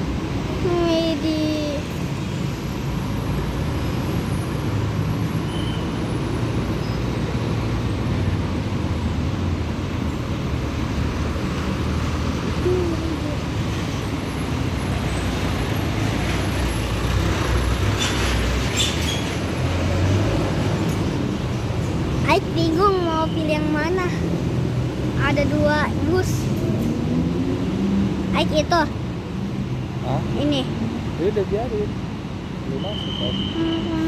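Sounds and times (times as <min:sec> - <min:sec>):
bus engines running: 0:00.0 - 0:34.0
traffic noise: 0:00.0 - 0:34.0.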